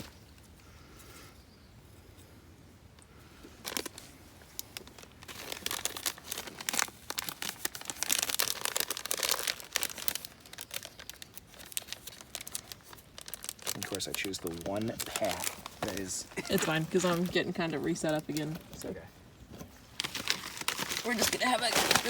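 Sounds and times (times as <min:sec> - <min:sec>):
dry crinkling rustles: 0:03.0 - 0:22.0.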